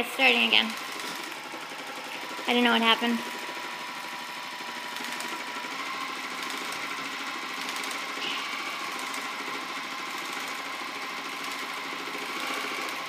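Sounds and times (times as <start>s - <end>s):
sewing machine stitching rapidly: 0.0s - 13.0s.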